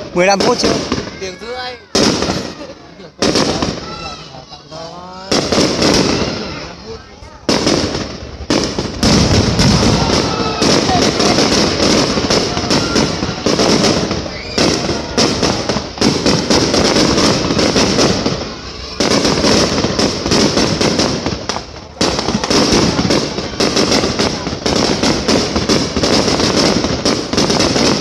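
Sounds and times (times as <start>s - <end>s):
fireworks crackling and bursting: 0.0s - 28.0s.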